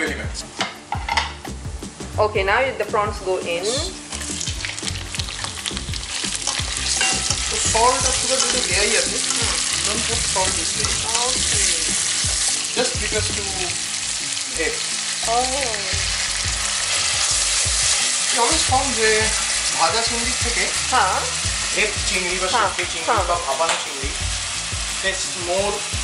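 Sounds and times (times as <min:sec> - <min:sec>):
prawns sizzling in a frying pan: 0:03.2 - 0:26.0.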